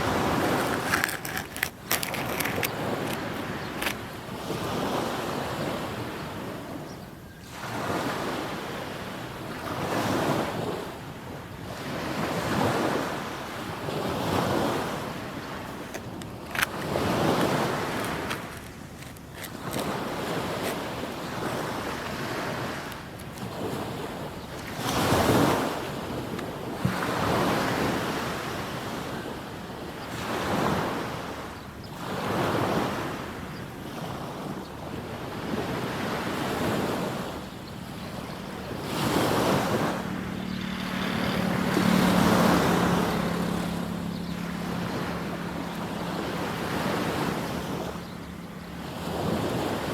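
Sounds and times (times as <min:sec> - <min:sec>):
small waves breaking on beach: 0:00.0 - 0:49.9.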